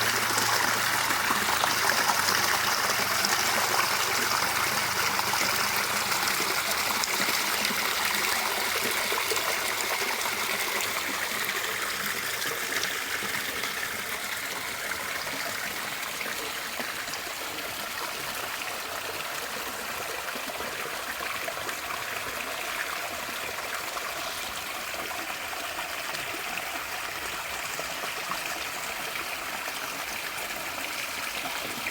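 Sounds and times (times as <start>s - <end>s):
river water burbling: 0.0s - 31.9s.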